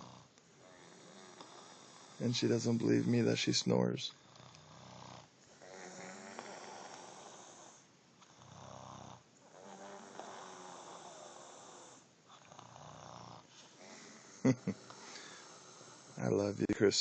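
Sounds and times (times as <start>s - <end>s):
woman snoring: 0.0s - 3.2s, 4.3s - 16.3s.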